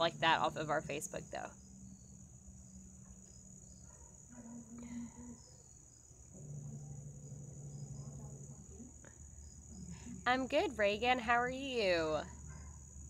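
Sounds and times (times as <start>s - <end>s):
crickets trilling: 0.0s - 13.0s
faint low hum: 0.0s - 13.0s.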